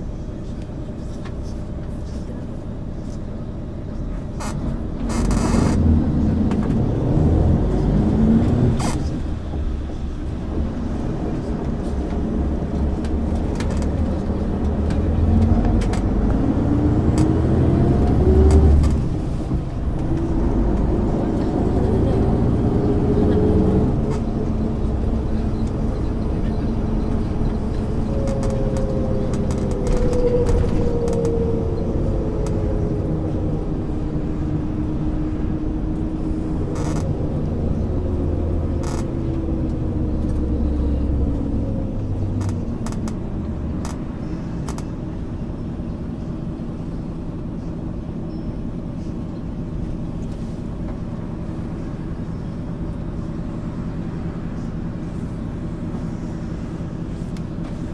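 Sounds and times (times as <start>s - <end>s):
bus diesel engine droning: 0.0s - 57.9s
drivetrain whine: 0.0s - 57.9s.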